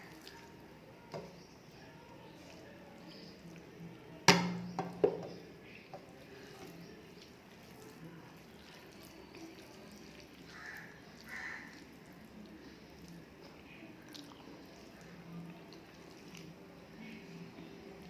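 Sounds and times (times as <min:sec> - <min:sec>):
faint eating sounds: 0:00.0 - 0:18.0.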